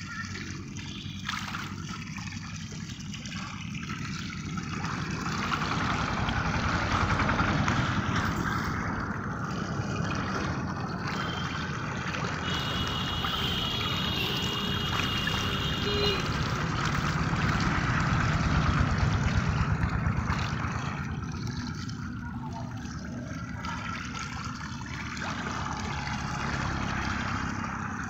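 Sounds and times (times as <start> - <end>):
fish splashing at water surface: 0.0 - 28.0.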